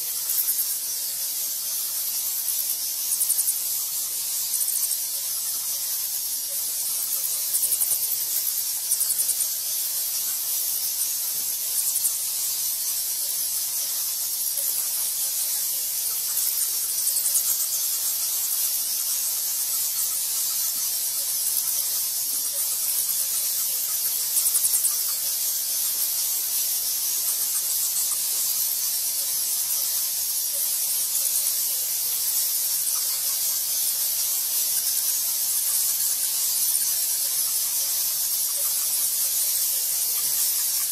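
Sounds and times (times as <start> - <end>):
bats chittering and squeaking: 0.0 - 40.9.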